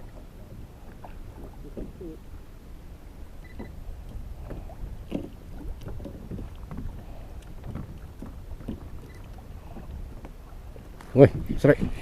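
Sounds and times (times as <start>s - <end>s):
water lapping against a hull: 0.0s - 12.0s
wind rumble on microphone: 0.0s - 12.0s.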